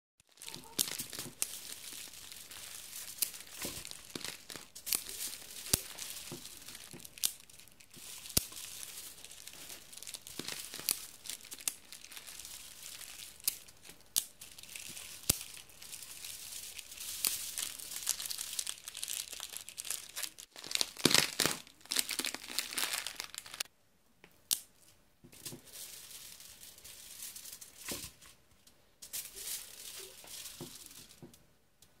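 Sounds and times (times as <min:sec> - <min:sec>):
plastic wrappers crumpled by hand: 0:00.2 - 0:23.7, 0:25.4 - 0:28.4, 0:29.0 - 0:31.3.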